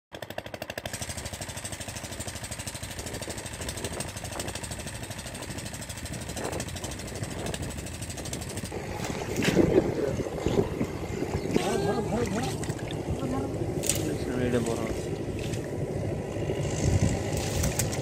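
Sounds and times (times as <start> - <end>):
water pump engine running: 0.2 - 18.0.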